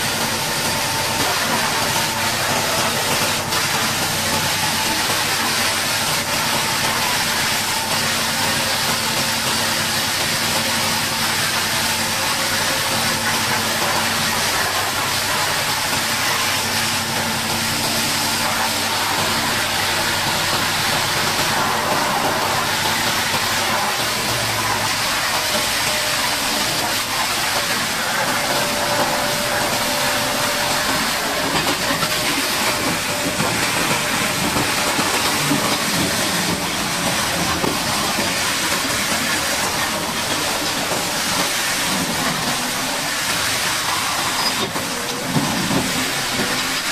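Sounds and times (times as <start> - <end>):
high-pressure water jet hissing: 0.0 - 46.9.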